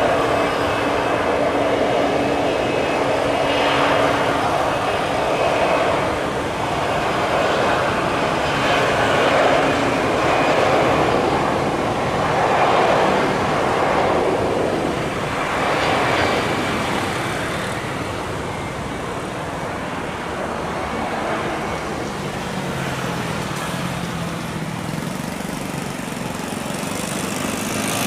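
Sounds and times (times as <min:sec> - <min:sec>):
jet engines at take-off thrust: 0:00.0 - 0:28.0.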